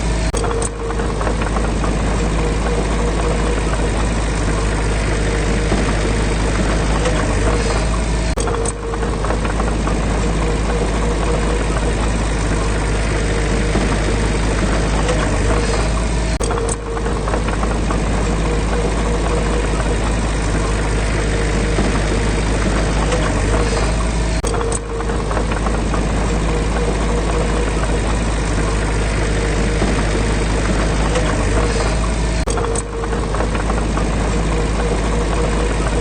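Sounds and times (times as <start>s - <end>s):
clicks: 0.0s - 36.0s
diesel engine running: 0.0s - 36.0s.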